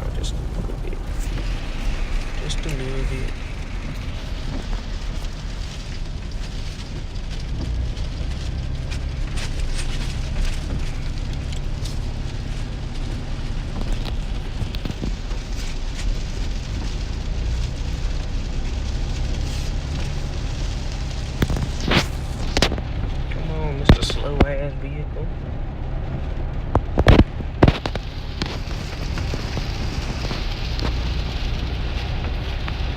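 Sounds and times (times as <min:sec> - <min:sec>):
heavy rain on vehicle cab: 0:00.0 - 0:32.9
road and engine rumble: 0:00.0 - 0:32.9.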